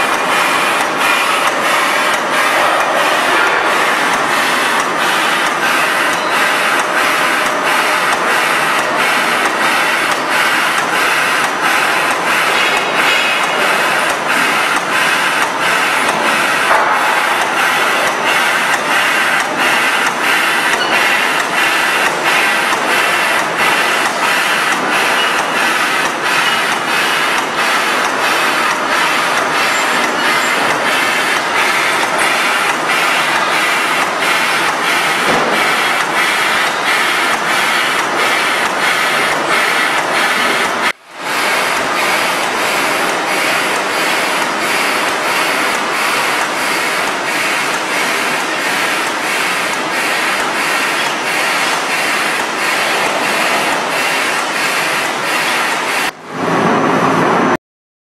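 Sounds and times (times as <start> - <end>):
regular mechanical clicking: 0.0 - 56.2
production line machinery clattering: 0.0 - 57.6.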